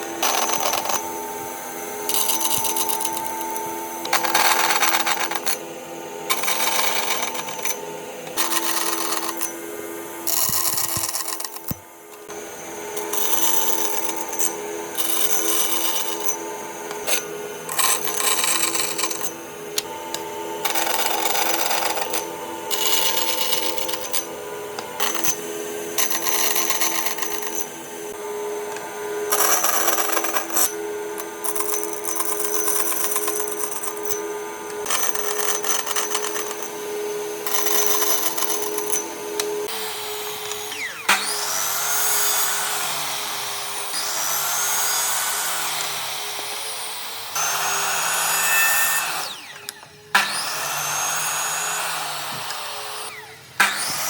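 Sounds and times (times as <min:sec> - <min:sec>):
power tool motor whining: 0:00.0 - 0:54.0
wood cutting noise: 0:00.0 - 0:54.0.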